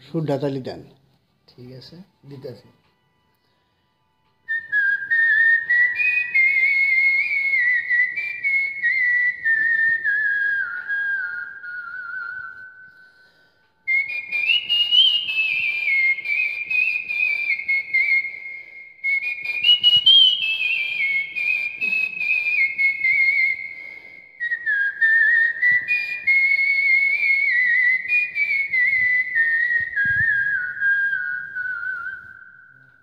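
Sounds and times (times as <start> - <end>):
man lip-whistling a melody: 4.4 - 33.0.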